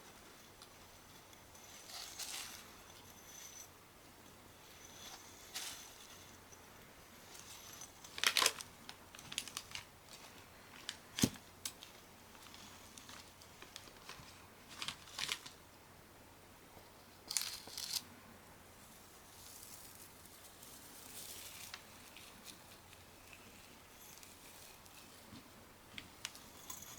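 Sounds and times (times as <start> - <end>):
crinkling and scraping: 0.0 - 15.6, 16.8 - 18.1, 18.8 - 26.9.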